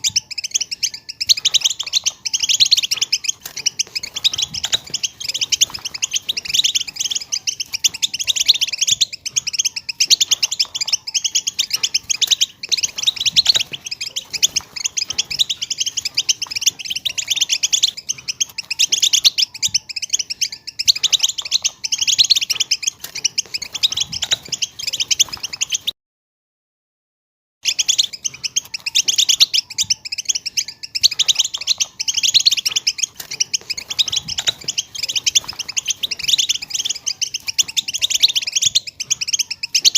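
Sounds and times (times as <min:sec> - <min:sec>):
finch twittering: 0:00.0 - 0:25.9, 0:27.6 - 0:39.9.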